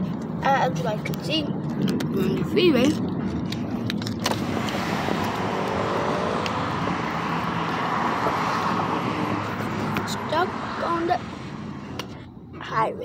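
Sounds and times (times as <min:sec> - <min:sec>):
car road and tyre noise: 0:00.0 - 0:13.0.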